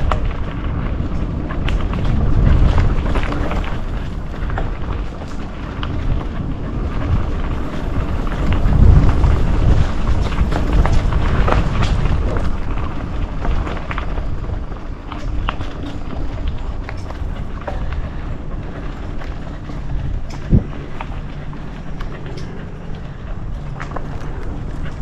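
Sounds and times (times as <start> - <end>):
bike clicks and rattles: 0.0 - 25.0
bike tyres rumbling on dirt: 0.0 - 25.0.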